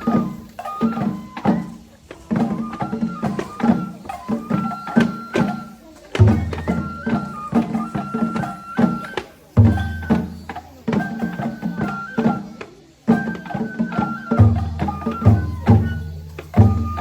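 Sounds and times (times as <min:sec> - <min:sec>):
drum beat: 0:00.0 - 0:17.0
flute melody: 0:00.0 - 0:17.0.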